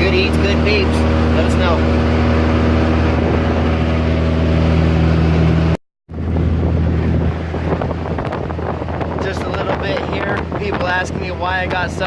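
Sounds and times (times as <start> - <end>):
car engine and road noise: 0.0 - 12.0
wind noise: 0.0 - 12.0.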